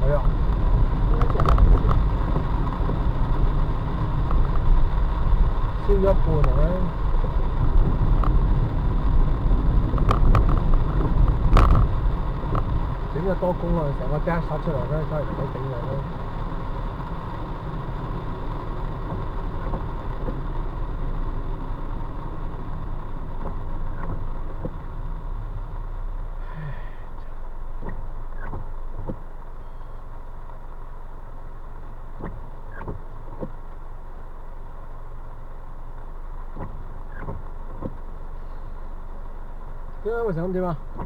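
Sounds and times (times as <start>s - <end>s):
car interior road and rain noise: 0.0s - 41.0s.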